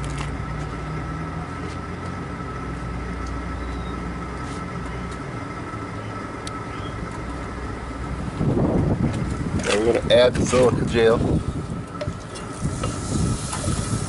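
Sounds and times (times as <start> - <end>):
constant high whine: 0.0 - 14.0
furnace rumble and hum: 0.0 - 14.0.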